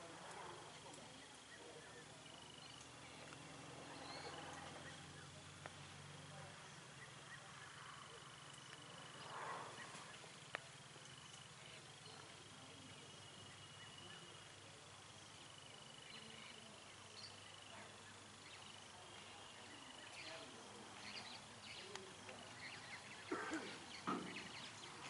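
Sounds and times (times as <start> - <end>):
rustles: 0.0 - 25.0.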